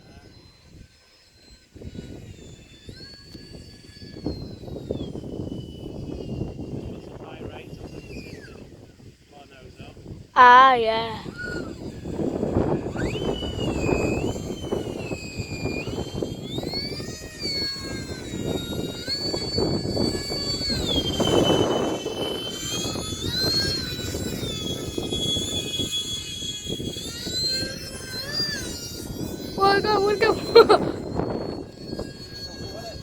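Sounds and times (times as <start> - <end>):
model jet fans whining: 0.2 - 10.0, 11.3 - 33.0.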